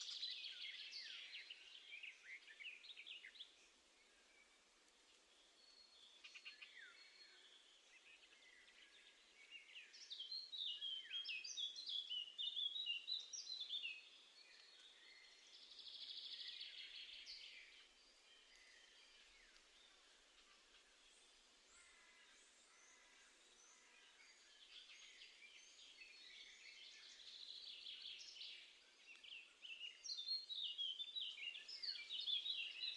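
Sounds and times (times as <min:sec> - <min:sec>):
songbirds chirping: 0:00.0 - 0:32.9.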